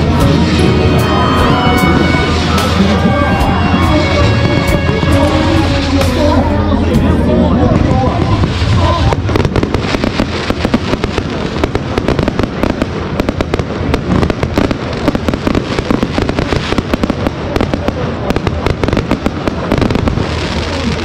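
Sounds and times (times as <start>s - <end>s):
fireworks popping and crackling: 0.0s - 21.0s.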